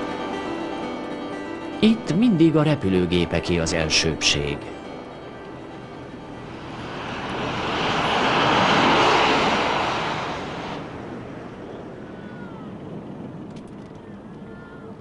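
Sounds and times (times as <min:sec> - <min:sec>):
airplane engine roar passing: 0:00.0 - 0:14.8.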